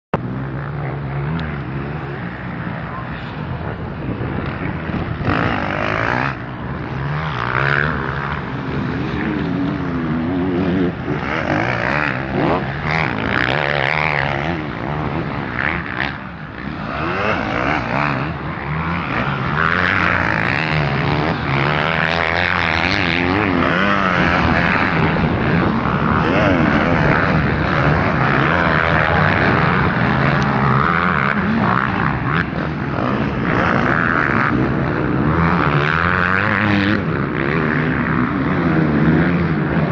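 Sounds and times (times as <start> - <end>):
motocross bike engines revving: 0.2 - 39.9.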